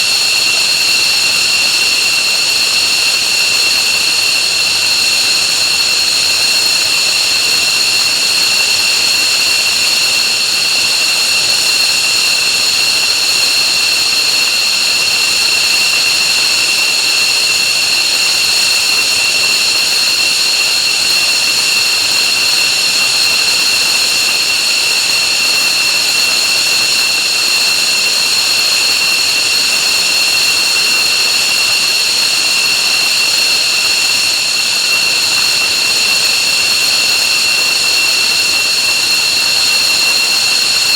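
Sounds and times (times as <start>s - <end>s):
jet engines high-pitched whine: 0.0s - 40.9s.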